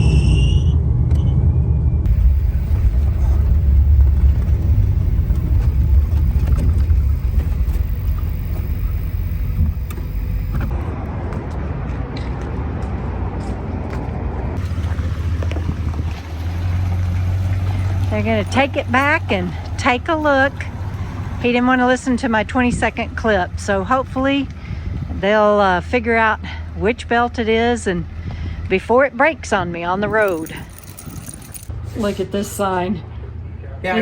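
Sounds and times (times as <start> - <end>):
engine rumbling: 0.0 - 34.0.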